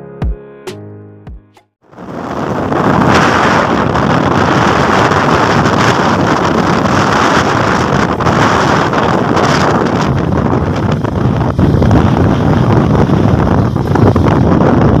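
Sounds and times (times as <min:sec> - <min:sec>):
wind buffeting microphone: 0:01.9 - 0:15.0.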